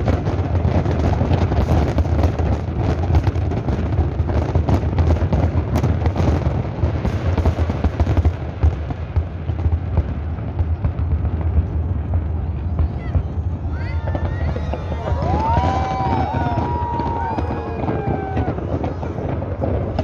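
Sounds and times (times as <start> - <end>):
firework shells bursting and crackling: 0.0 - 20.0
low firework booms: 0.0 - 20.0.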